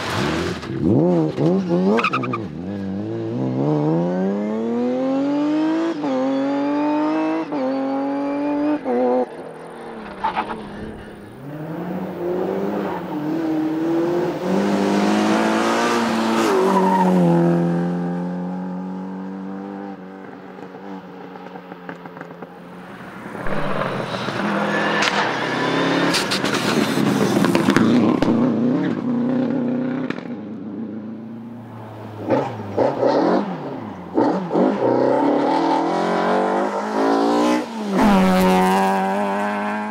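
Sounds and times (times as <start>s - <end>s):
rally car engines at full throttle: 0.0s - 39.9s.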